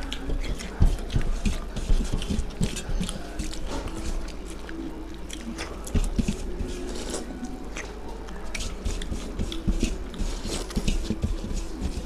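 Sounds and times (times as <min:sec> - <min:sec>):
wet eating smacking and slurping: 0:00.0 - 0:12.0.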